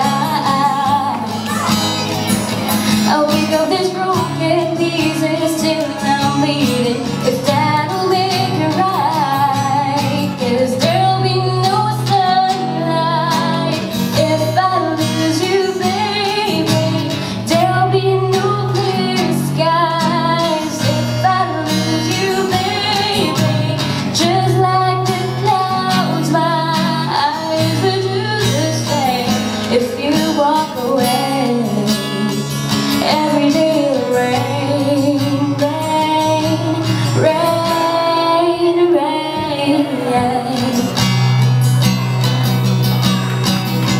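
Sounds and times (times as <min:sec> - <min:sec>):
woman singing into a microphone: 0:00.0 - 0:41.5
acoustic guitar: 0:00.0 - 0:43.9.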